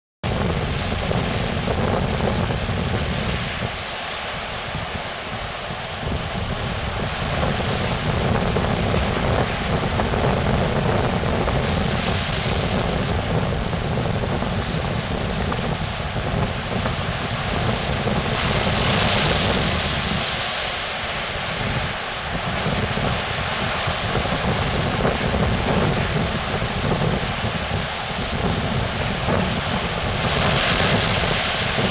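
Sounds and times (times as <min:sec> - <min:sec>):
wind buffeting microphone: 0:00.2 - 0:31.9
surf breaking over rocks: 0:00.3 - 0:31.9.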